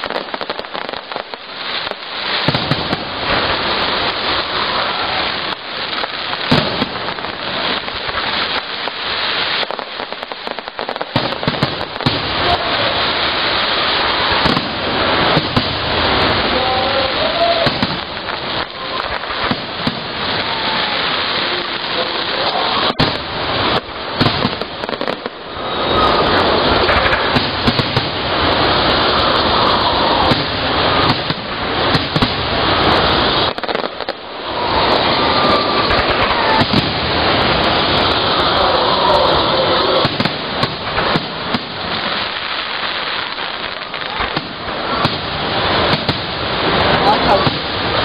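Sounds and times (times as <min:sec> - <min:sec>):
fireworks bangs: 0:00.0 - 0:48.0
fireworks crackling: 0:00.0 - 0:48.0
steady noisy hiss: 0:00.0 - 0:48.0.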